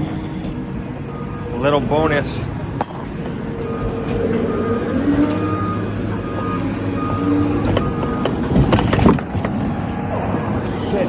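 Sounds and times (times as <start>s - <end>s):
backup alarm beeping: 0.0s - 8.9s
heavy machinery engine running: 0.0s - 11.0s.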